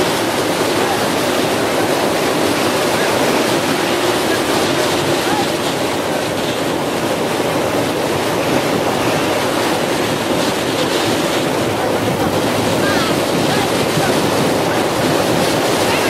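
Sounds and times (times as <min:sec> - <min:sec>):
sea surf breaking on shore: 0:00.0 - 0:16.0
wind buffeting microphone: 0:00.0 - 0:16.0.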